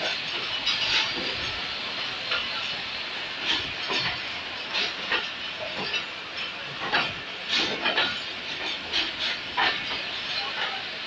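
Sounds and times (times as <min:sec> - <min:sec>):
train rushing noise: 0:00.0 - 0:11.0
wheels clicking over rail joints: 0:00.0 - 0:11.0.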